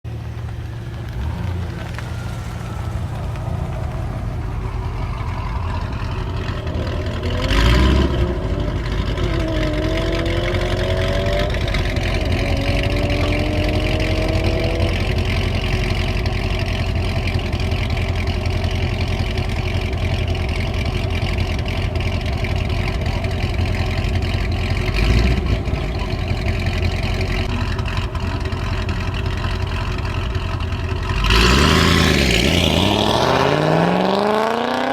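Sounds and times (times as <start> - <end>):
car exhaust idling: 0.0 - 34.6
engine revving: 0.7 - 18.2, 21.4 - 30.3, 31.0 - 34.9.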